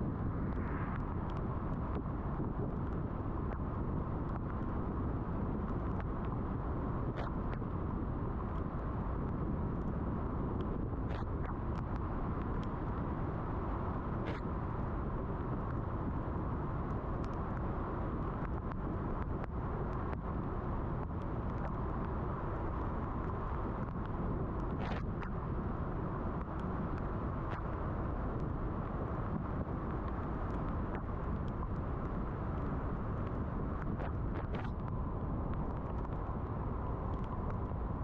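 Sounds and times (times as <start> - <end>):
car road and tyre noise: 0.0 - 38.0.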